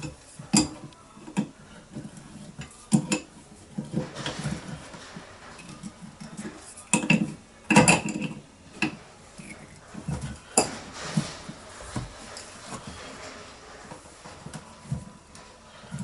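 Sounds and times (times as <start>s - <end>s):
clattering plumbing fittings and tools: 0.0s - 16.0s.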